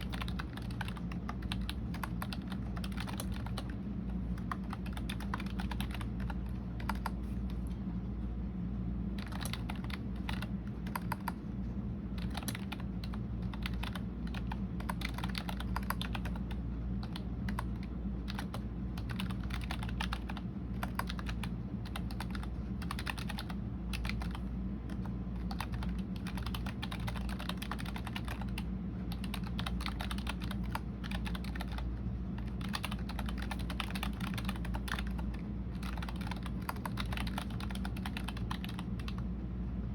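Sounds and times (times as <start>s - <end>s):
keyboard typing: 0.0s - 7.7s, 9.2s - 11.4s, 12.1s - 39.2s
low hum: 0.0s - 39.9s.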